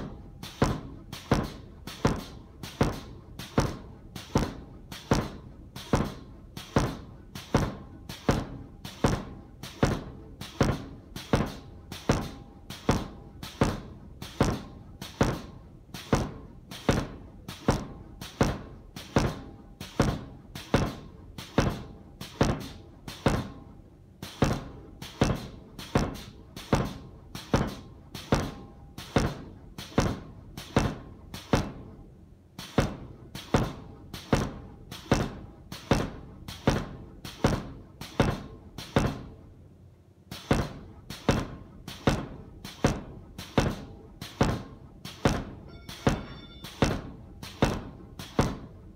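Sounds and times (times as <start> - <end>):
power hammer striking hot steel: 0.0 - 32.0, 32.6 - 39.4, 40.3 - 48.9.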